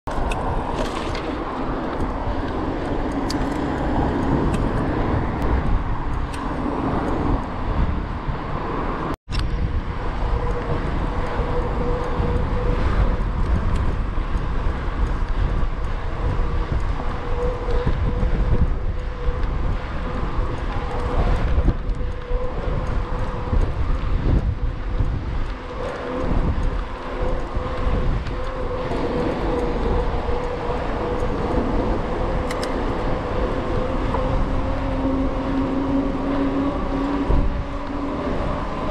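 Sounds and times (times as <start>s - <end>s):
tyres rumbling on asphalt: 0.1s - 38.9s
wind buffeting microphone: 0.1s - 38.9s.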